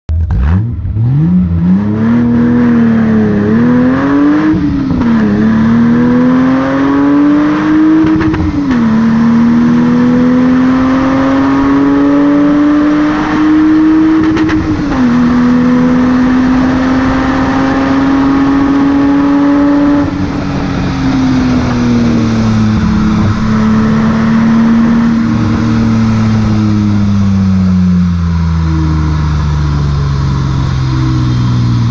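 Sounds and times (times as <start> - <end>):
car engine accelerating hard: 0.1 - 31.9.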